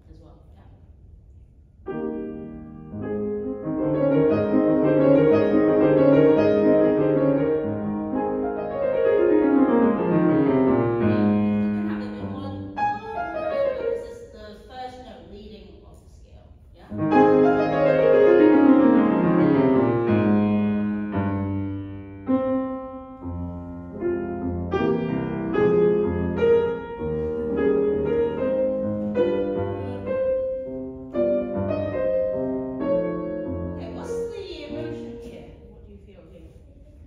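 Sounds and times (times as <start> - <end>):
solo grand piano: 1.8 - 14.5, 16.9 - 35.8.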